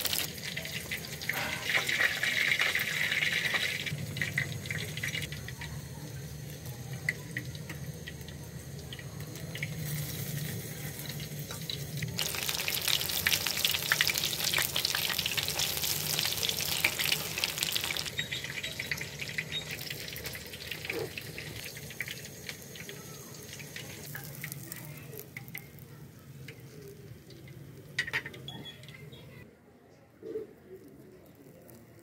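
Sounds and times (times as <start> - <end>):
food deep-frying in oil: 0.0 - 29.4, 30.9 - 32.0.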